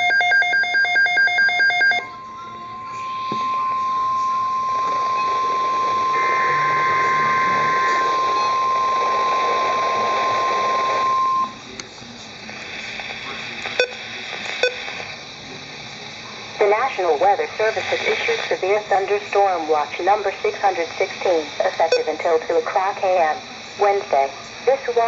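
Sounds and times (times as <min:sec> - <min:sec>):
faint radio hiss: 0:01.3 - 0:25.0.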